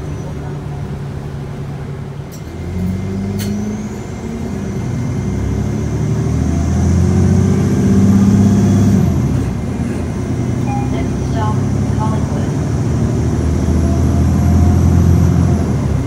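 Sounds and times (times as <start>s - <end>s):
bus engine and drivetrain: 0.0s - 16.0s.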